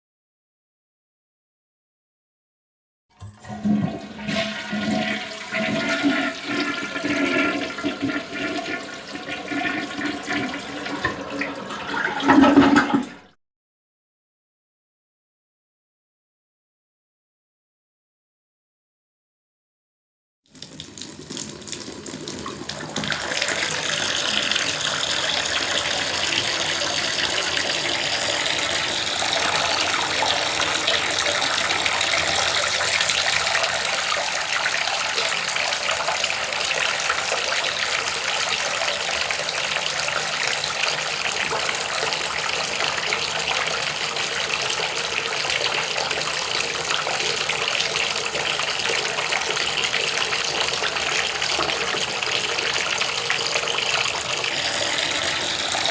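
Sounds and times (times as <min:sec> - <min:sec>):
running water gushing: 0:03.2 - 0:13.3, 0:20.5 - 0:55.9.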